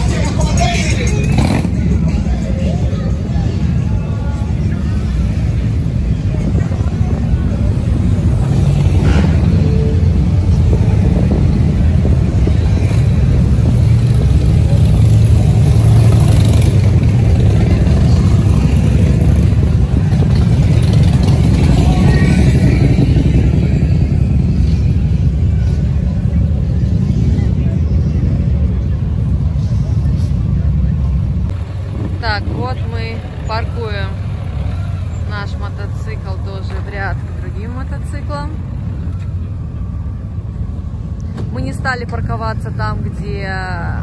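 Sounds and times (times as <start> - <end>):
motorcycle engine running: 0.0 - 35.2.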